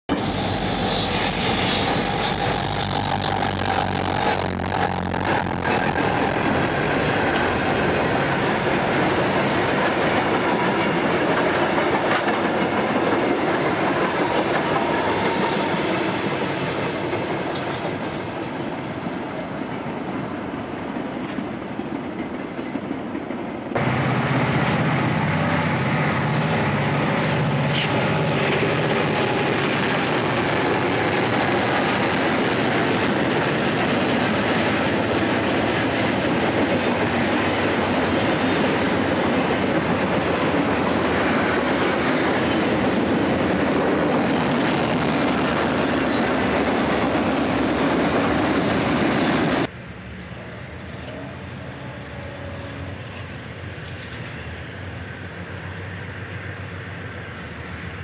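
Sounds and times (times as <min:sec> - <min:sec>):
diesel locomotive rumble: 0:00.1 - 0:58.0
train wheels rumbling on rail: 0:00.1 - 0:58.0.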